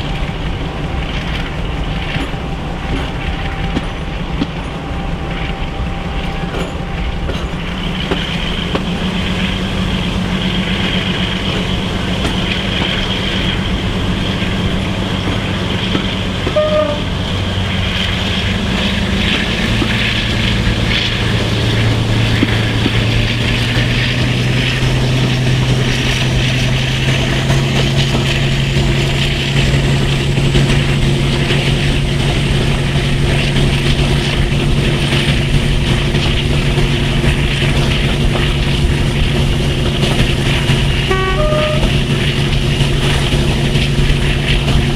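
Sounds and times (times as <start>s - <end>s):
diesel locomotive engine under power: 0.0s - 44.9s
rail and wheel noise: 0.0s - 44.9s.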